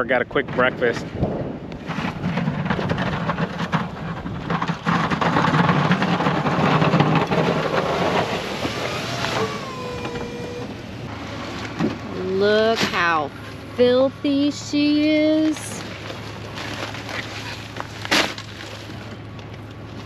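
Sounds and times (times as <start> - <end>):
plow rumbling over ice and snow: 0.0 - 20.0
truck engine hum: 1.3 - 20.0.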